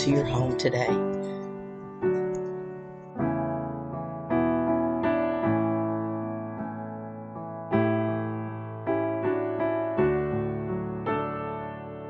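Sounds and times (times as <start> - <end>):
slow keyboard chords: 0.0 - 12.0.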